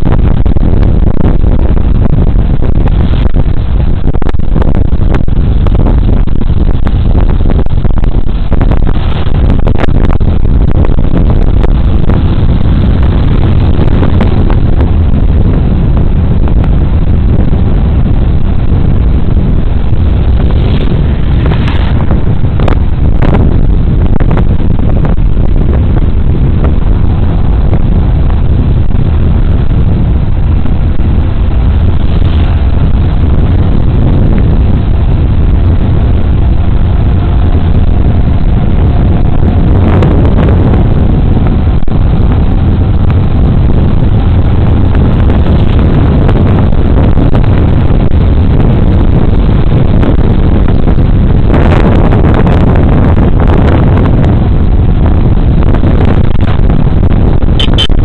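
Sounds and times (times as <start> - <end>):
road noise: 0.0 - 58.0
wind rumble on microphone: 0.0 - 58.0.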